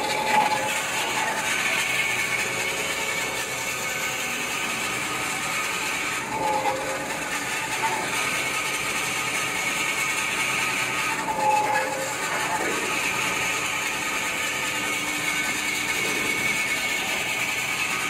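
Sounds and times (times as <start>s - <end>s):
cutting machine whirring: 0.0s - 18.0s.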